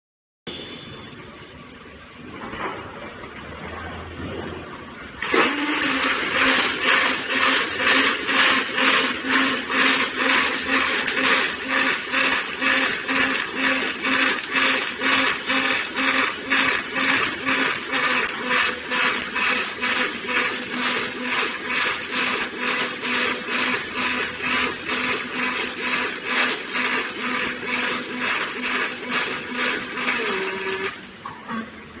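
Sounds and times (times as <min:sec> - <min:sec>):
welding machine hissing and buzzing: 0:05.2 - 0:31.8.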